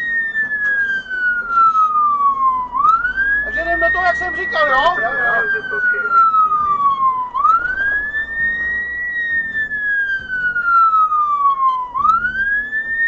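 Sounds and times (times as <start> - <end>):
electronic siren wailing: 0.0 - 13.0
low vehicle rumble: 0.0 - 13.0.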